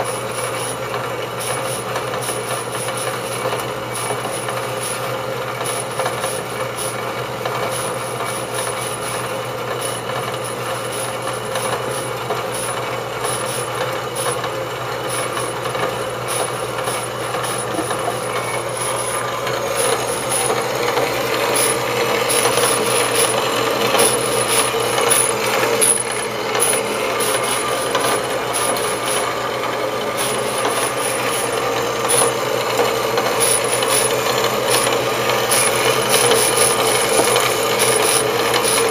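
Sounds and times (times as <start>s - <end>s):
bandsaw motor humming: 0.0s - 38.9s
bandsaw blade rasping metal: 7.7s - 38.9s.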